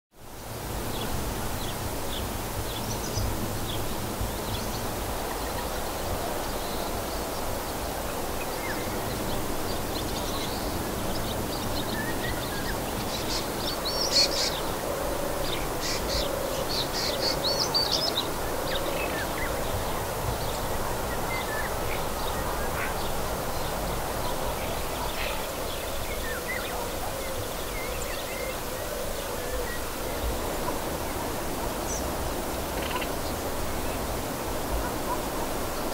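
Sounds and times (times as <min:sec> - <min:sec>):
steady background hiss: 0:00.2 - 0:35.9
wild birds chirping: 0:00.9 - 0:35.9.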